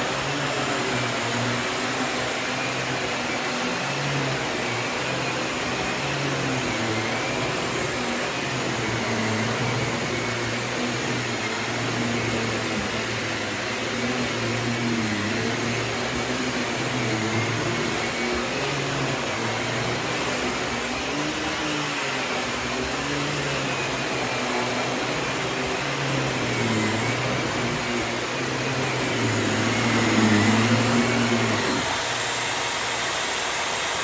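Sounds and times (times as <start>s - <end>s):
vacuum cleaner motor hum: 0.0s - 34.0s.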